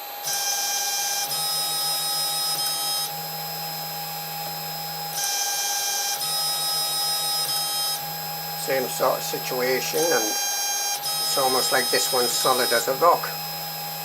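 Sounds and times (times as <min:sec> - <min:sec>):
stepper motor whine: 0:00.0 - 0:14.0.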